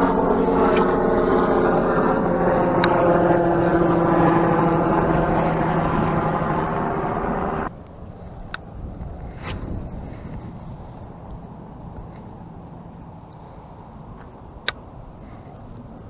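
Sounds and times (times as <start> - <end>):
engine droning hum: 0.0 - 16.0.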